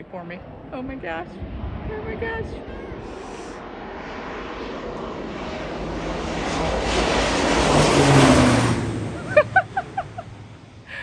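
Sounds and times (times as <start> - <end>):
airplane engine and propeller: 0.0 - 11.0.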